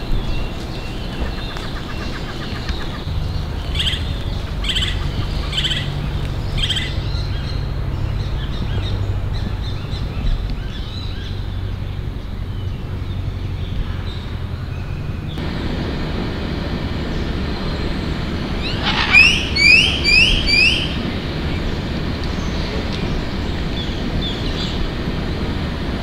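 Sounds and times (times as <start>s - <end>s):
steady low rumble: 0.0s - 26.0s
wild birds calling: 0.0s - 26.0s.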